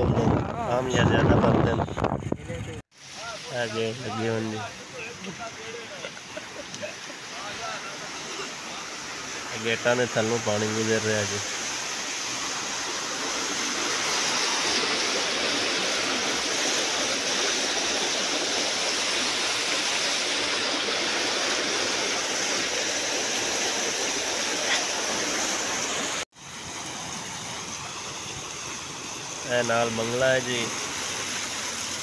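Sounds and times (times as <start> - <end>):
water rushing through sluice gates: 2.9 - 32.0.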